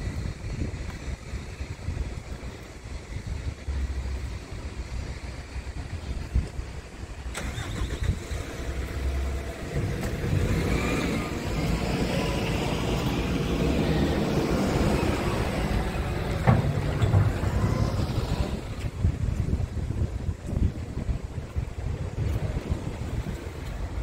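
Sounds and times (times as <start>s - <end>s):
wind gusting on microphone: 0.0s - 24.0s.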